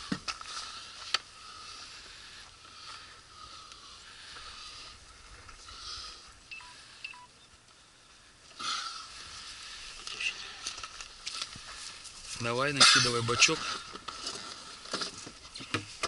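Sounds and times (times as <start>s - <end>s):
faint rustling: 0.0s - 16.0s.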